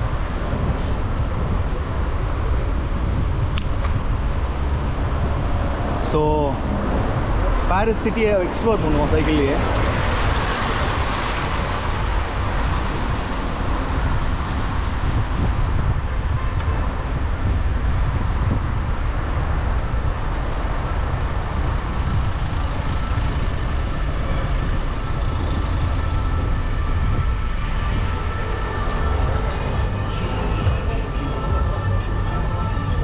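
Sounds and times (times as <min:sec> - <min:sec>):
bicycle road rumble: 0:00.0 - 0:33.0
wind buffeting microphone: 0:00.0 - 0:33.0.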